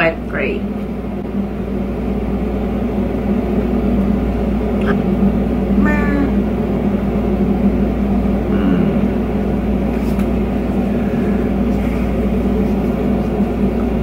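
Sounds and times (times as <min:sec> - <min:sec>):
machine humming and hissing: 0:00.1 - 0:14.0.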